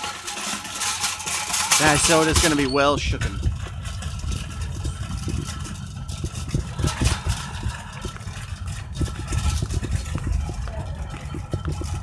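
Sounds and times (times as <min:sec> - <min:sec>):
cart clicks and rattles: 0:00.0 - 0:12.0
shopping cart rolling on asphalt: 0:00.0 - 0:12.0.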